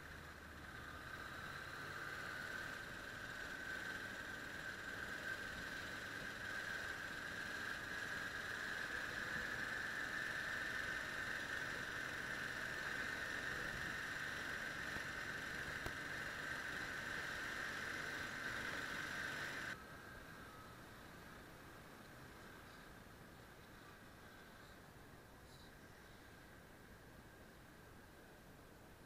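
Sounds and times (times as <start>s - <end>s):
muffled motorcycle engine drone: 0.0s - 29.0s.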